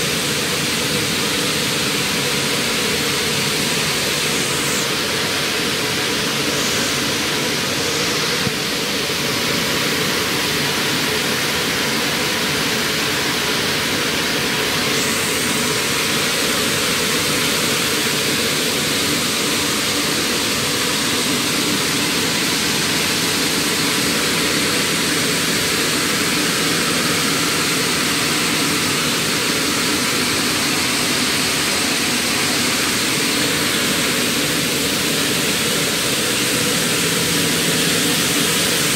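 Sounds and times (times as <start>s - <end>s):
loud rushing hiss: 0.0s - 38.9s.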